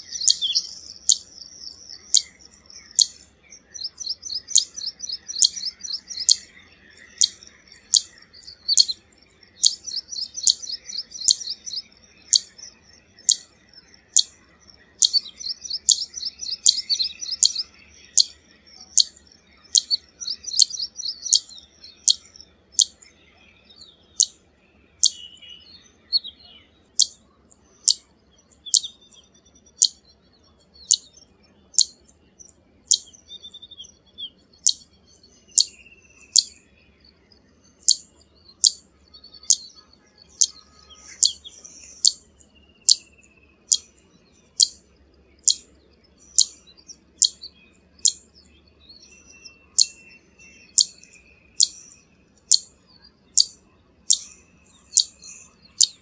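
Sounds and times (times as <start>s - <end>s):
rapid bird twittering: 0.0s - 56.0s.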